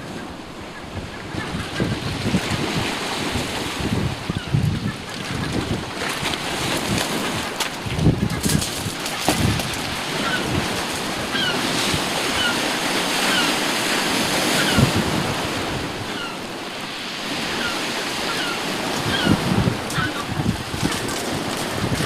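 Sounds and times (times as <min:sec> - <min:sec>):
sea surf washing on shore: 0:00.0 - 0:22.0
wind buffeting microphone: 0:00.0 - 0:22.0.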